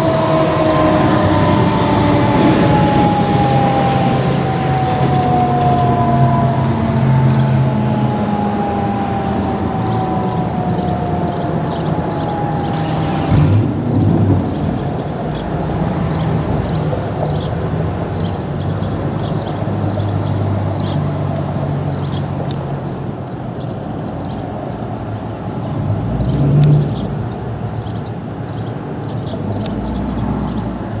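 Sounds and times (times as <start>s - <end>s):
road traffic rumble: 0.0s - 31.0s
vehicle passing: 0.0s - 31.0s
small birds chirping: 4.8s - 31.0s.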